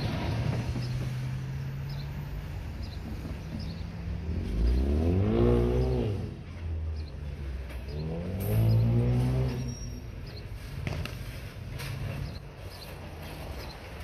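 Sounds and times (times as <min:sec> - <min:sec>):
diesel locomotive engine droning: 0:00.0 - 0:14.0.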